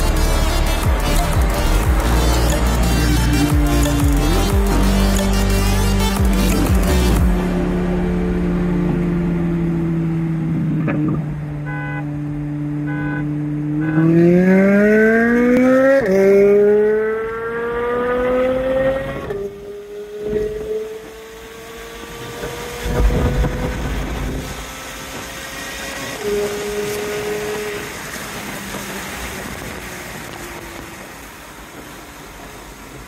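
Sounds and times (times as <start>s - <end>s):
car engine accelerating and shifting: 0.0s - 33.0s.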